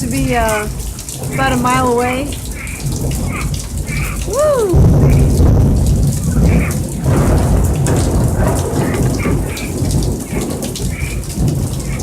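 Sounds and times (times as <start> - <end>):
heavy rain pouring: 0.0 - 12.0
thunder rumbling: 0.0 - 12.0.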